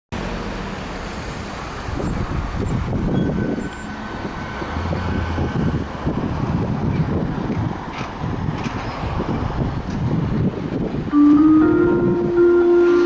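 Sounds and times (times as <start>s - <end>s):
passing vehicles rumbling: 0.1s - 13.0s.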